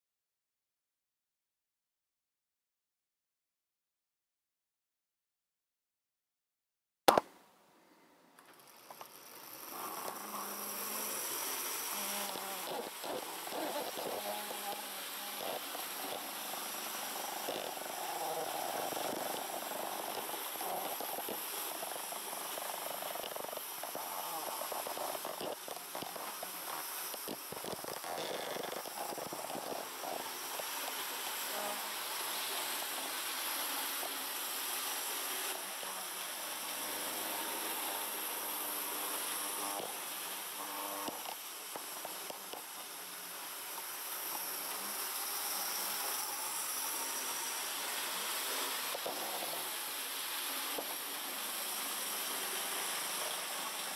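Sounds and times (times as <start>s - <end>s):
model train motor whirr: 8.4s - 53.9s.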